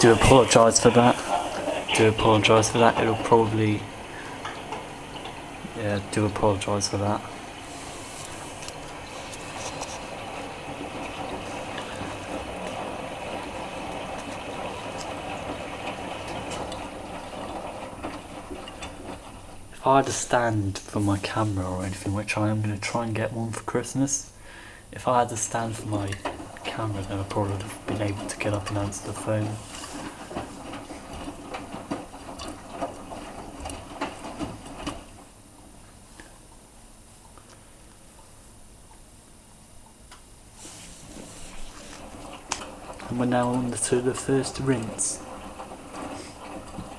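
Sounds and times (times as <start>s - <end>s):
washing machine water rushing: 0.0s - 46.9s.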